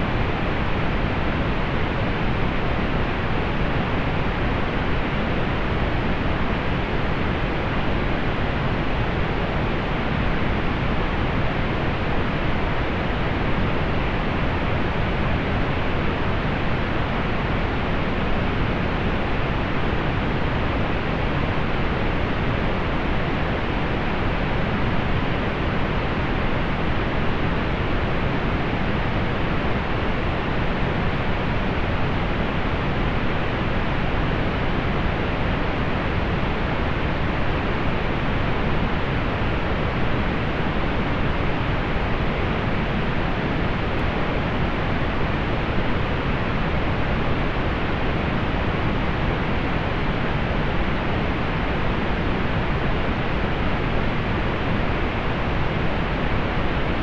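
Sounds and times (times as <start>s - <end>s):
pink noise: 0.0s - 57.0s.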